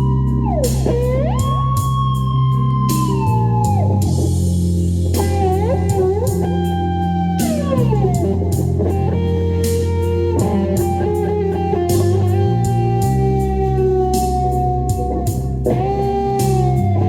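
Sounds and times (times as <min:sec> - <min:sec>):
drums and bass backing track: 0:00.0 - 0:17.0
electric guitar lead: 0:00.0 - 0:17.0.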